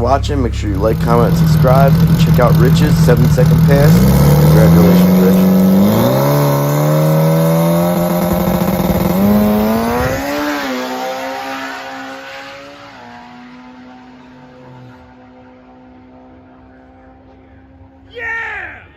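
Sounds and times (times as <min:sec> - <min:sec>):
race car engine at high revs: 0:00.0 - 0:18.1.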